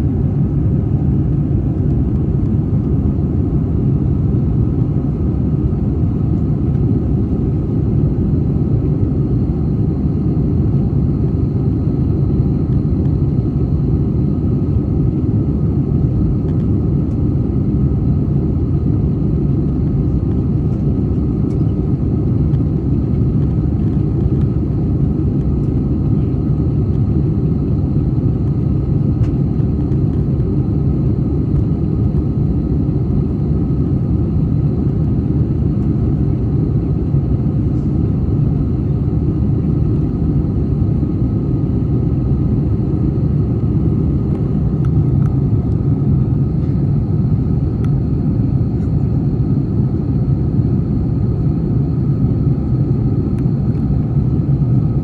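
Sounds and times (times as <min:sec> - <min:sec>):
faint steady whines: 0:00.0 - 0:55.0
jet engines low rumble: 0:00.0 - 0:55.0.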